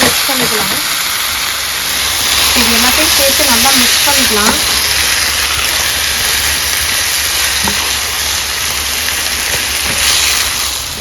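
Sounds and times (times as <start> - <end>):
chicken and onions sizzling in oil: 0.0 - 11.0.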